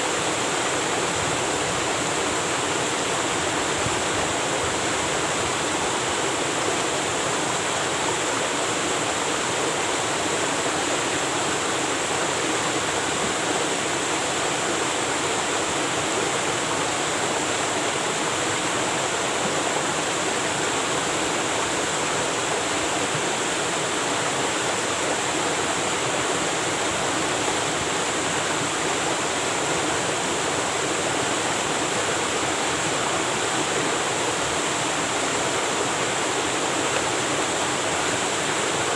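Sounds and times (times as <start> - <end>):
waterfall rushing and splashing: 0.0 - 38.9.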